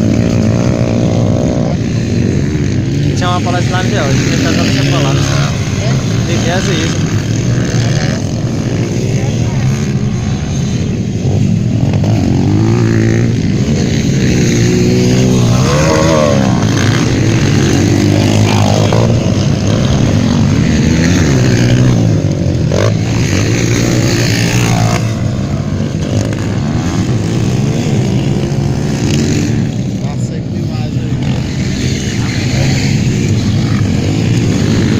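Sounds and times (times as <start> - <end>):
motocross bike engines revving: 0.0 - 34.9.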